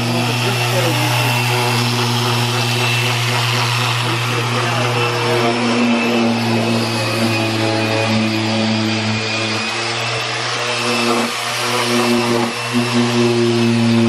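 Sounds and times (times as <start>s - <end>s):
orbital sander whirring: 0.0s - 14.0s.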